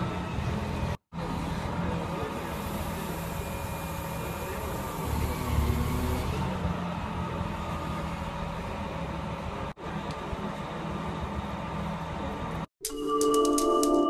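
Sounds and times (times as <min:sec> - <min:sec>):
diesel engine running: 0:00.0 - 0:12.7.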